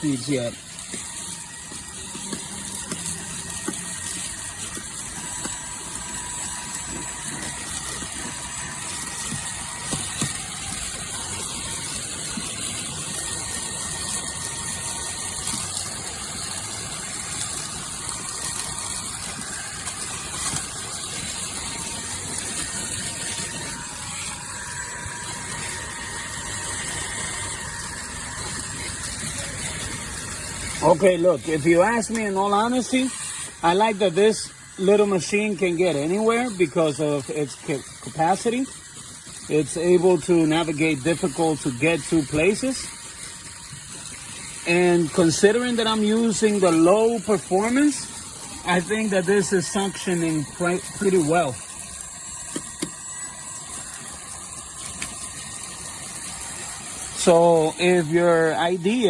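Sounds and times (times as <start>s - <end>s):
handheld vacuum running: 0.0s - 59.0s.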